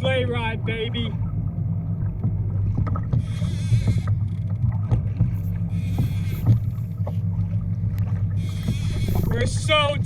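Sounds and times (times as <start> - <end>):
steady low rumble: 0.0 - 10.0
water splashing against a kayak hull: 0.0 - 10.0.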